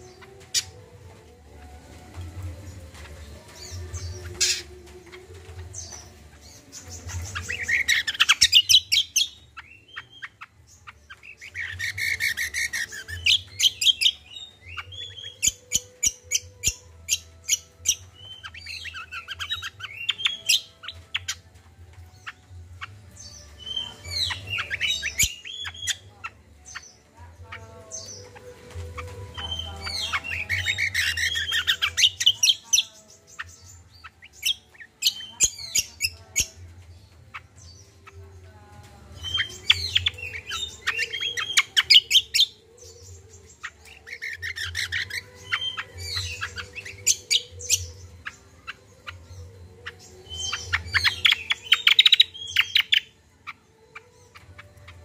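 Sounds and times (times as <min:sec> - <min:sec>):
songbird chattering song: 0:00.0 - 0:55.0.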